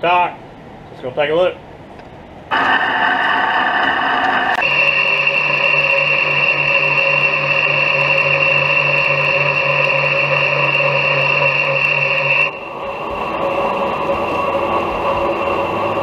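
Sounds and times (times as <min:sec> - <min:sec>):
metal lathe whining: 0:02.5 - 0:16.0.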